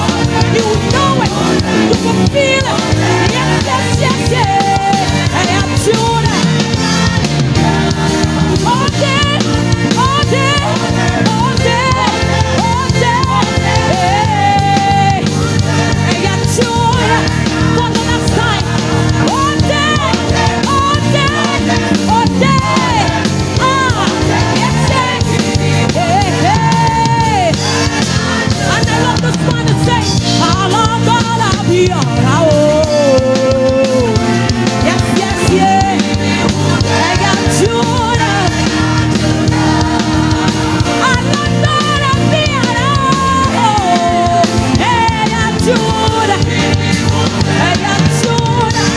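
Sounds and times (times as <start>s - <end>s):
worship band playing: 0.0s - 48.9s.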